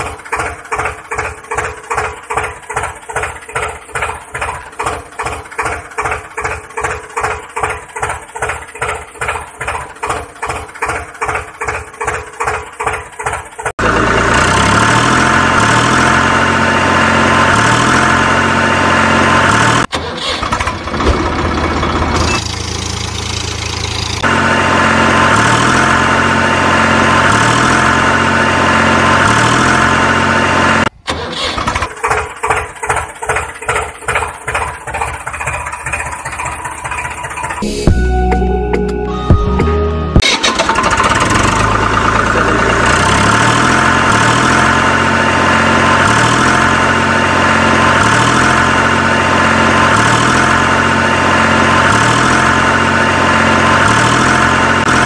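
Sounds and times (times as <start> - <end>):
tractor engine chugging: 0.0 - 38.6, 40.2 - 55.0.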